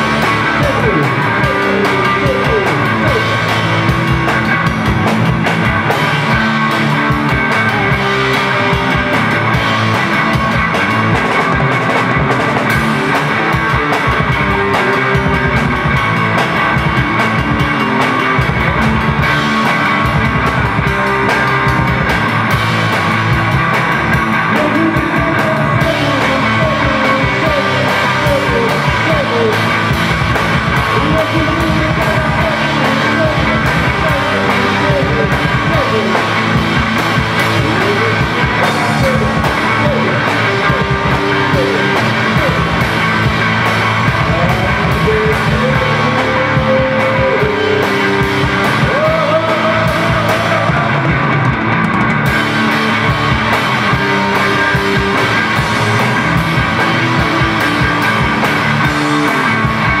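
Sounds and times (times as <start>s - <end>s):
live rock band playing: 0.0s - 60.0s.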